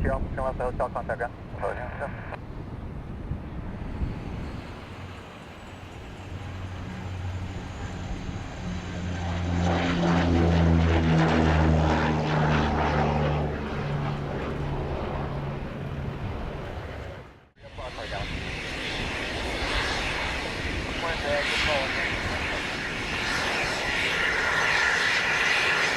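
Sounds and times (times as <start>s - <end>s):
propeller plane passing: 0.0s - 25.9s.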